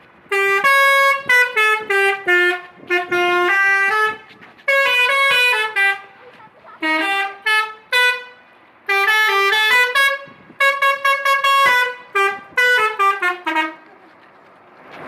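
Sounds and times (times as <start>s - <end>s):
multi-tone air horn tune: 0.3s - 14.0s.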